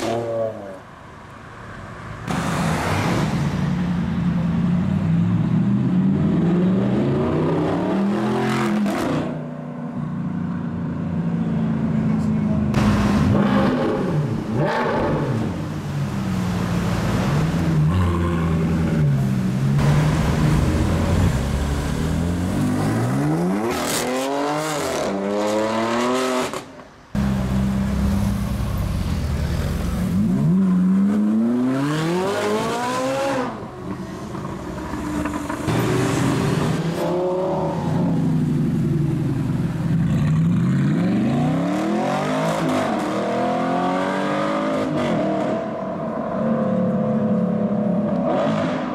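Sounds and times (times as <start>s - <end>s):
car engines revving: 1.7s - 48.9s.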